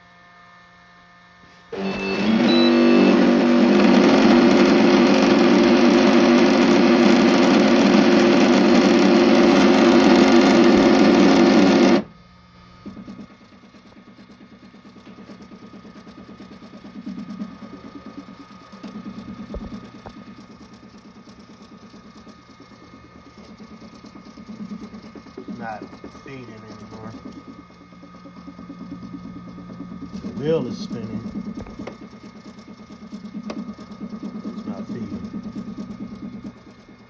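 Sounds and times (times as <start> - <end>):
feed motor rhythmic pulsing: 0.0 - 37.0
extruder grinding noise: 1.6 - 12.1, 17.0 - 37.0.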